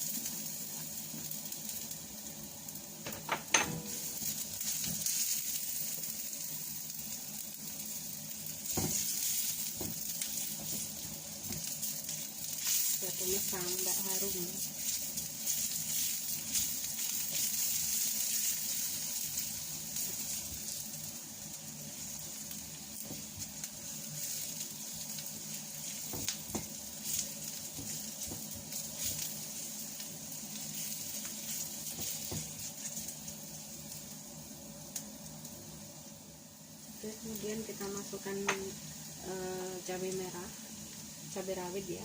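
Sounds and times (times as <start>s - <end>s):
shallots sizzling in hot oil: 0.0s - 42.0s.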